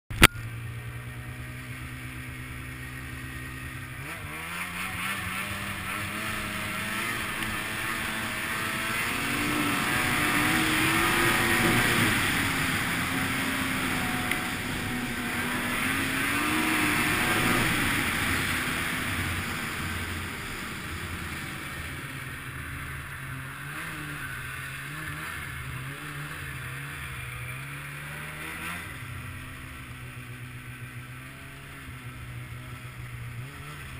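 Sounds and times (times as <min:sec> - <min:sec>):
snowmobile engine: 0:00.1 - 0:33.9.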